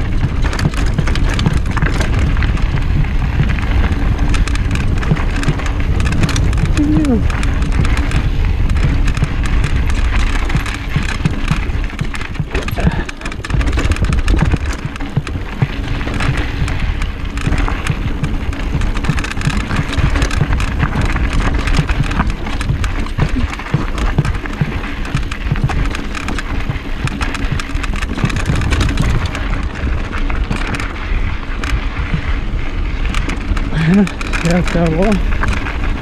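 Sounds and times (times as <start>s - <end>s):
small clicks and knocks: 0.0s - 2.8s, 3.4s - 31.0s, 33.0s - 36.0s
bike tyres crunching over gravel: 0.0s - 36.0s
wind rushing on microphone: 0.0s - 36.0s.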